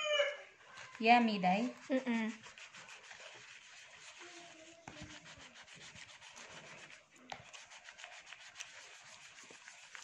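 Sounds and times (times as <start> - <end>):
scraping in a plastic bowl: 0.7 - 10.0.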